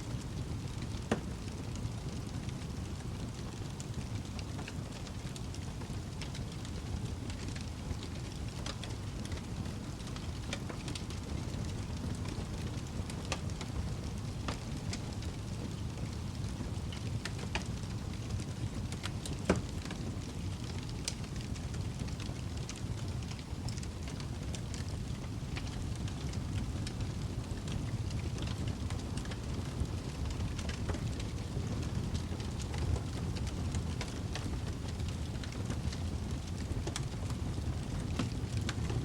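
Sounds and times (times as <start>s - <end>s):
low rumble of flames: 0.0s - 39.0s
wood fire crackling: 0.0s - 39.0s.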